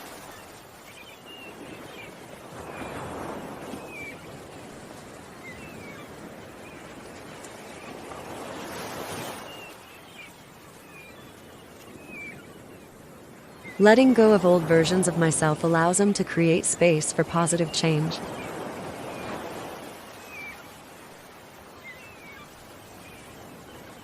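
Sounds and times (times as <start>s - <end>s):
ocean waves washing in: 0.0s - 24.0s
small birds chirping: 0.2s - 8.1s, 9.2s - 24.0s.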